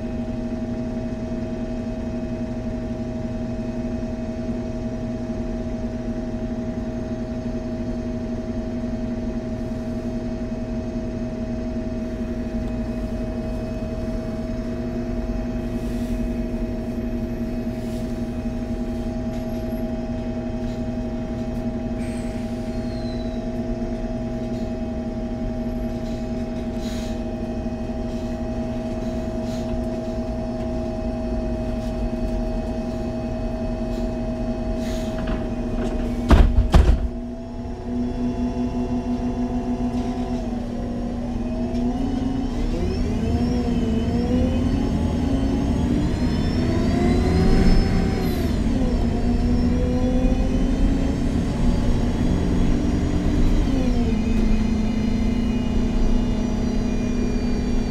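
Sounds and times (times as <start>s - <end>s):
bus engine drone: 0.0s - 57.9s.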